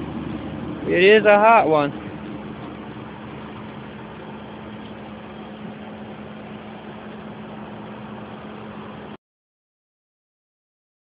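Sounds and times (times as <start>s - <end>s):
constant low hum: 0.0s - 9.2s
engine idling: 0.0s - 9.2s.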